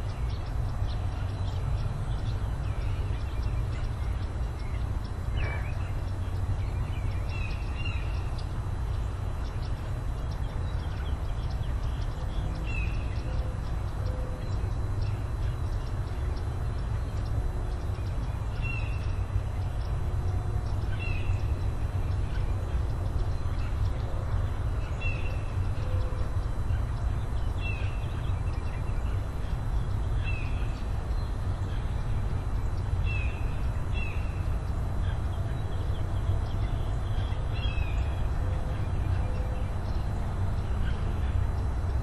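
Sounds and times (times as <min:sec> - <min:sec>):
bird chirping: 0:00.0 - 0:42.0
steady low rumble: 0:00.0 - 0:42.0.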